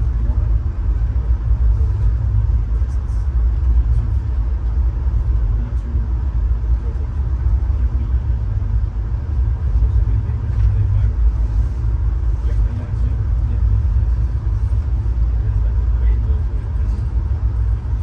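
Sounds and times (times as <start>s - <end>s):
train car rumbling on track: 0.0s - 18.0s.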